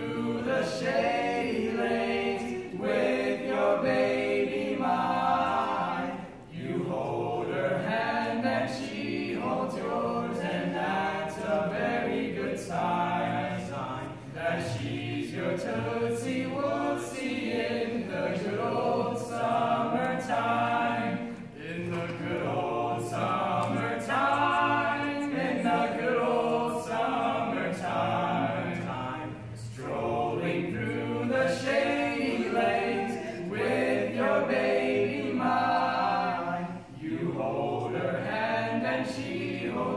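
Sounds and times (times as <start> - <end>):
male quartet singing a cappella: 0.0 - 39.9.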